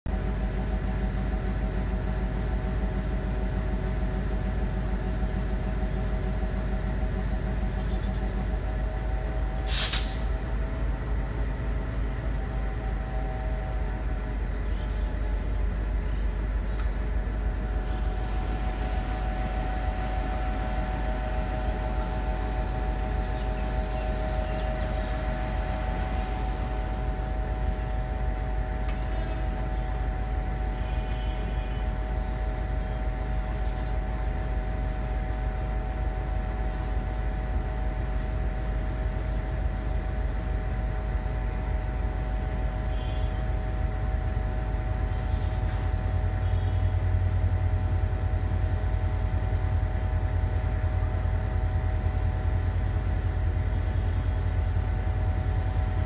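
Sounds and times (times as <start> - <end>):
diesel locomotive engine rumbling: 0.0 - 56.0.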